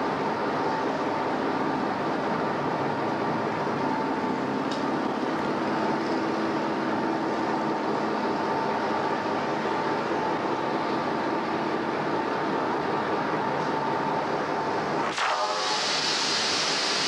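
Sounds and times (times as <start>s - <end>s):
train rumbling and hissing: 0.0s - 17.0s.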